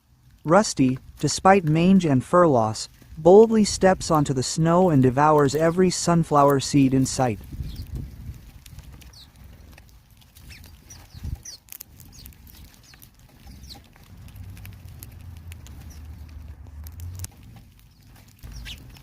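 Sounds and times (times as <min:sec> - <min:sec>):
low wind rumble: 0:00.0 - 0:19.0
small birds chipping: 0:00.0 - 0:19.0.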